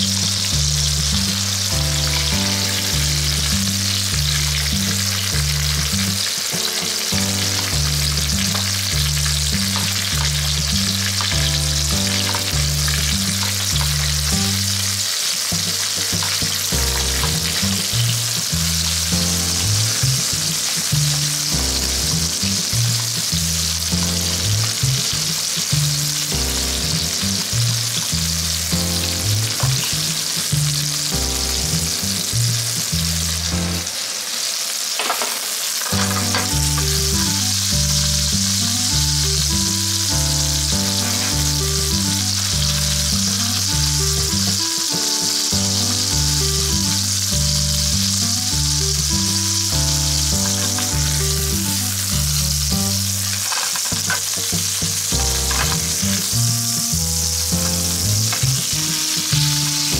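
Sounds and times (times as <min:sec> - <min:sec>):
background music with bass line: 0:00.0 - 0:34.0, 0:36.0 - 0:59.9
meat sizzling in frying pan: 0:00.0 - 0:59.9.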